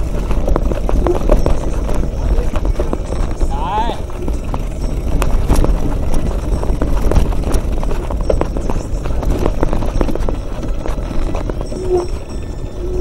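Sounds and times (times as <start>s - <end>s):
mountain bike rattling over stones: 0.0s - 13.0s
wind rumble on microphone: 0.0s - 13.0s.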